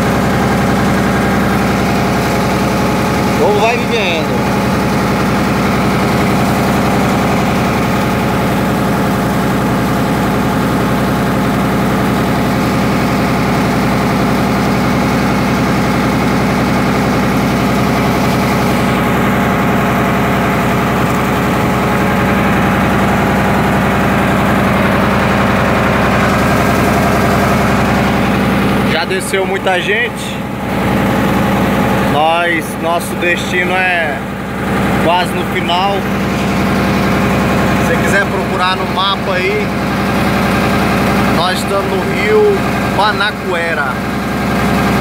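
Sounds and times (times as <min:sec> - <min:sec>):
boat diesel engine droning: 0:00.0 - 0:45.0.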